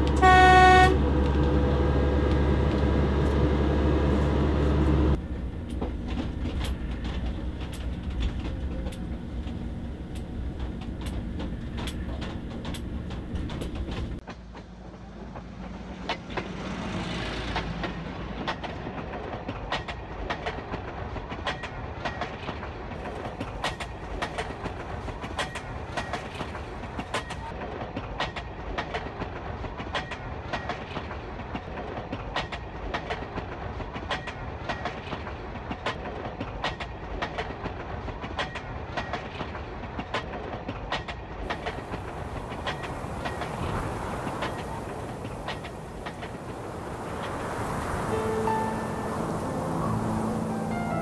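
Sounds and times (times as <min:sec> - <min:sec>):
low rumble of railbus: 0:00.0 - 0:51.0
wheels clicking over rail joints: 0:05.1 - 0:16.6, 0:17.4 - 0:50.9.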